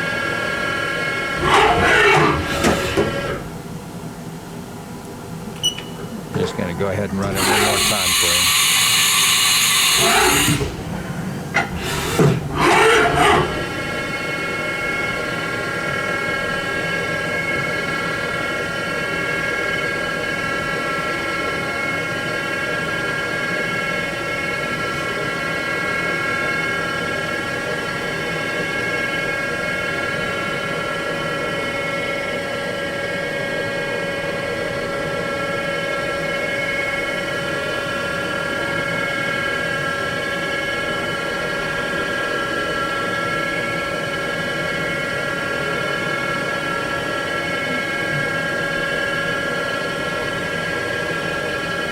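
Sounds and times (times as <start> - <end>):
machine spindle whine: 0.0 - 4.2, 5.8 - 51.9
mechanical hum: 0.0 - 51.9.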